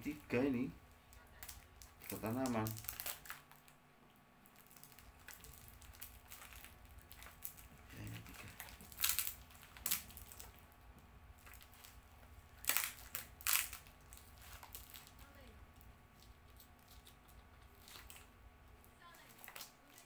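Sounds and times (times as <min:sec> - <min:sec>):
packaging crinkling and rustling: 0:00.0 - 0:03.8, 0:04.4 - 0:10.8, 0:11.4 - 0:20.0.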